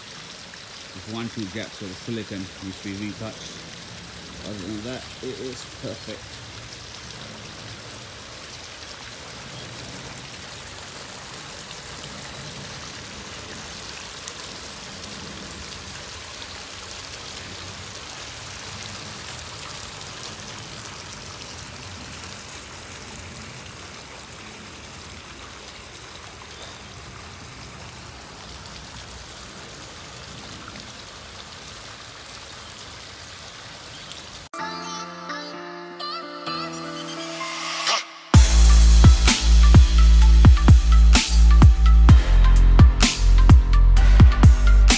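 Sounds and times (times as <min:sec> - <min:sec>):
waterfall splashing: 0:00.0 - 0:34.9, 0:36.5 - 0:44.9.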